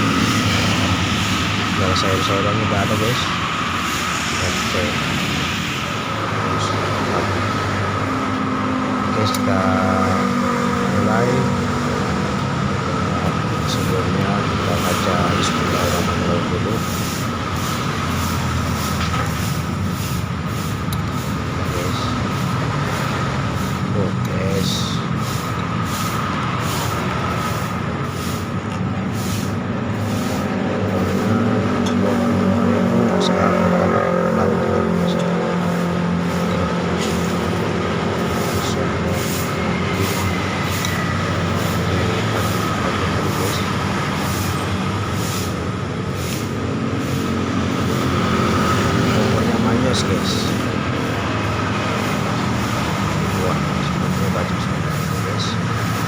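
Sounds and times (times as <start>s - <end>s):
road traffic rumble: 0.0s - 56.0s
thin steady whine: 0.0s - 56.0s.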